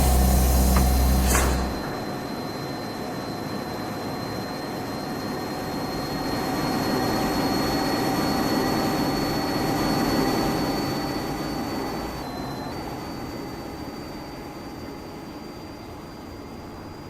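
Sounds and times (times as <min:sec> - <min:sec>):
train rumbling with high whine: 0:00.0 - 0:17.0.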